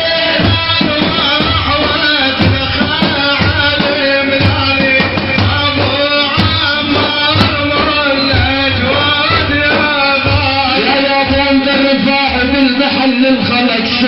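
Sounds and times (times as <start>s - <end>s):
frame drums beating: 0.0s - 14.0s
man singing: 0.0s - 14.0s.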